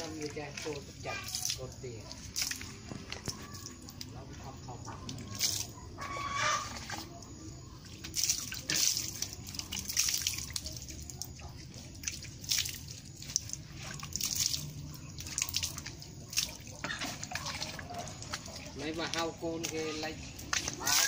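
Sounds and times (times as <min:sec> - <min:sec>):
water dripping on muddy ground: 0:00.0 - 0:21.0.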